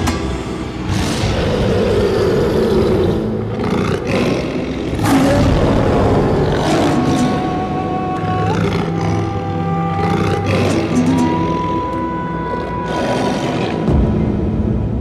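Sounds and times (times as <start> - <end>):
lion roaring: 0.8 - 11.5, 12.4 - 13.9.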